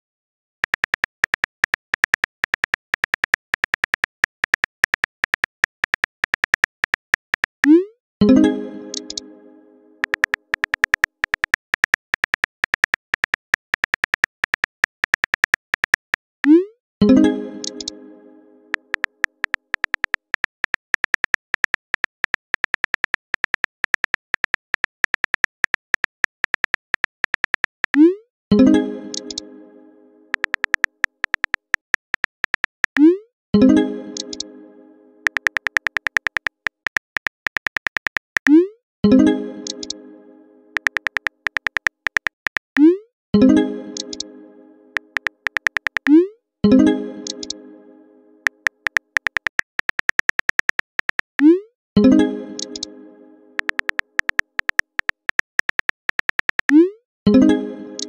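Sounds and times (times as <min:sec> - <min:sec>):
phone keyboard typing ticks: 0:00.6 - 0:09.2, 0:10.0 - 0:17.9, 0:18.7 - 0:28.2, 0:29.1 - 0:29.4, 0:30.3 - 0:34.4, 0:35.2 - 0:38.7, 0:39.6 - 0:40.0, 0:40.8 - 0:44.2, 0:45.0 - 0:46.3, 0:47.2 - 0:47.6, 0:48.4 - 0:52.9, 0:53.6 - 0:57.0.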